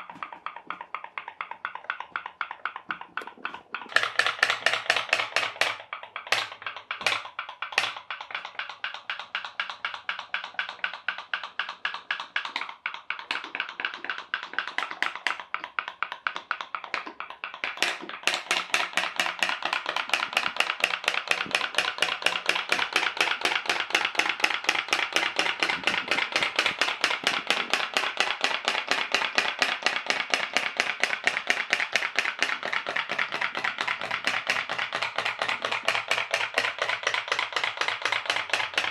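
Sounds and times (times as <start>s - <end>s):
pop-pop boat boiler popping: 0.0s - 38.9s.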